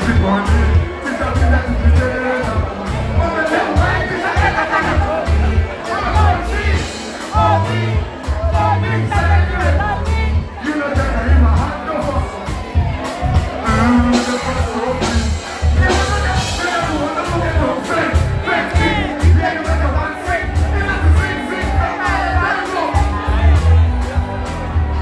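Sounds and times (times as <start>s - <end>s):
person singing into microphone: 0.0s - 12.4s, 13.4s - 23.6s
loud bass-heavy beat: 0.0s - 25.0s.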